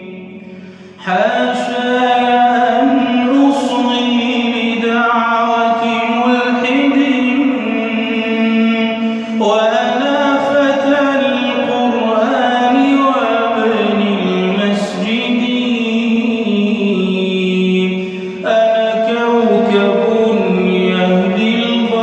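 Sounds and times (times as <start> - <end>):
wordless vocal chanting: 0.0 - 22.0.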